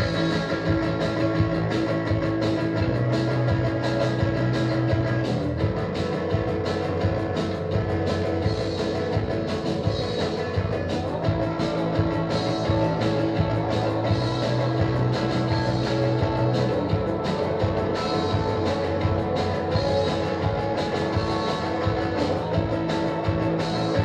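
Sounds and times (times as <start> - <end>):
steady drum beat: 0.0 - 24.0
sustained electric guitars: 0.0 - 24.0.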